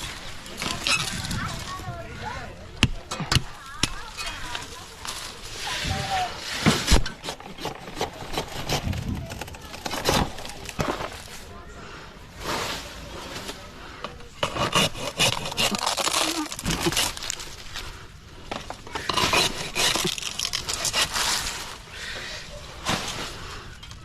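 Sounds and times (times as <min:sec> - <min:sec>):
dry palm fronds rustling: 0:00.0 - 0:24.0.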